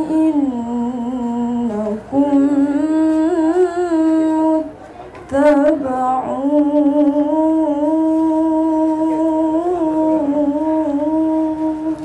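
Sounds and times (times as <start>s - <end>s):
woman reciting melodically: 0.0s - 12.0s.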